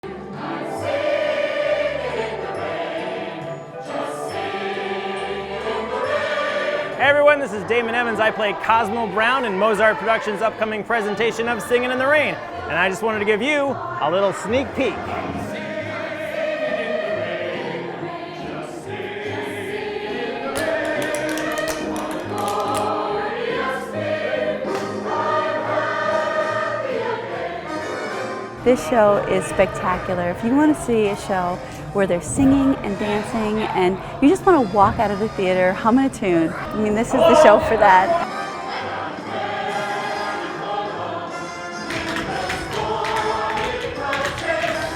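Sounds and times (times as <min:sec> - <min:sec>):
choir singing held notes: 0:00.0 - 0:44.9.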